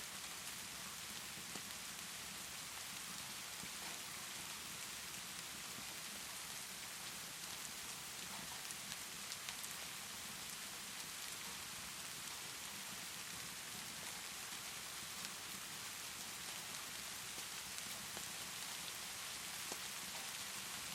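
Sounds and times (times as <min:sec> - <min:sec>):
rainfall hiss: 0:00.0 - 0:20.9
wood fire crackling: 0:00.4 - 0:20.9.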